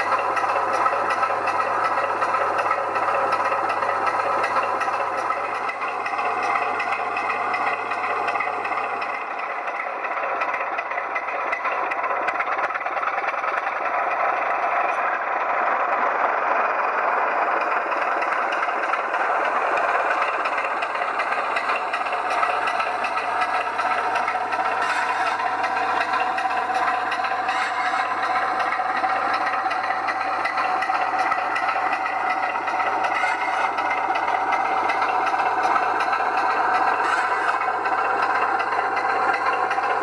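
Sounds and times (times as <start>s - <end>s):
diesel engine sound from small speaker: 0.0s - 40.0s.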